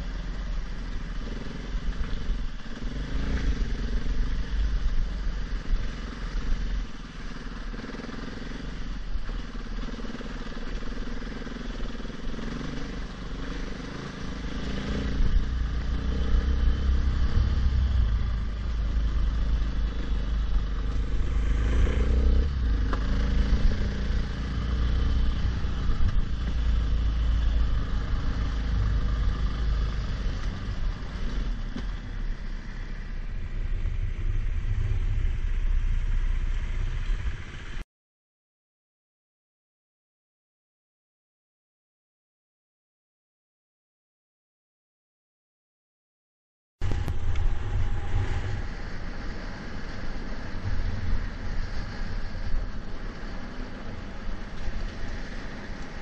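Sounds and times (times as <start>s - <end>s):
motorcycle engine revving: 0.0s - 37.8s, 46.8s - 56.0s.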